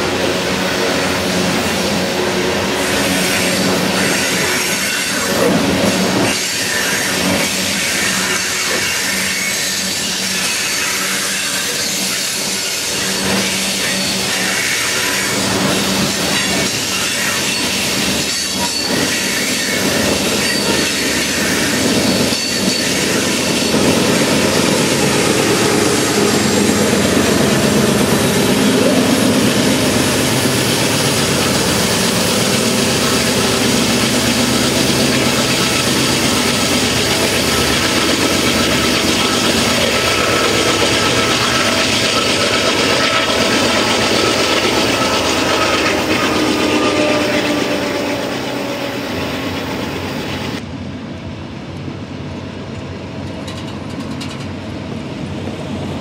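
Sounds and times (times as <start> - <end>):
train cars rolling on steel wheels: 0.0 - 50.6, 52.6 - 56.0
diesel locomotive engine working hard: 0.0 - 56.0.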